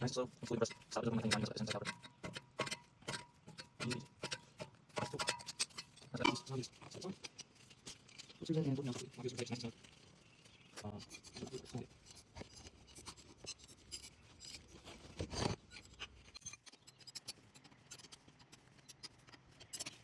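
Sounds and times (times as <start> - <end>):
clicks and scrapes of brake parts: 0.0 - 20.0.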